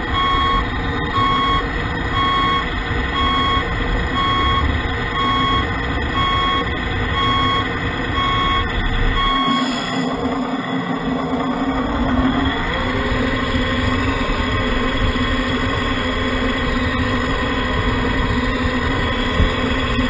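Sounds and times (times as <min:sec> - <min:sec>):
toy truck engine drone: 0:00.0 - 0:20.0.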